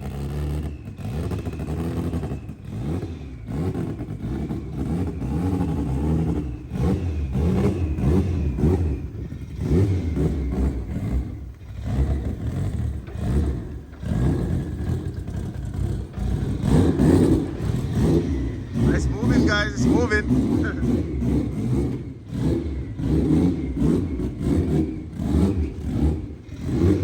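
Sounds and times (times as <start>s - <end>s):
turbocharged car engine revving: 0.0s - 27.0s.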